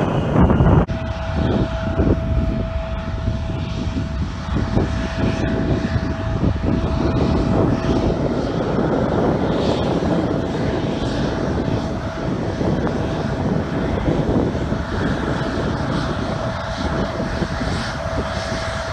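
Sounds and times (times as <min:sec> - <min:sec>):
jet engines idling whine: 0:00.0 - 0:18.9
wind rumbling on microphone: 0:00.0 - 0:18.9.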